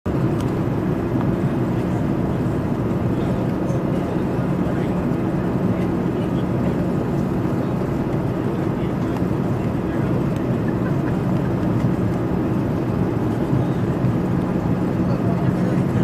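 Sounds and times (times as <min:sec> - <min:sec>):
jet engines droning: 0:00.1 - 0:16.0.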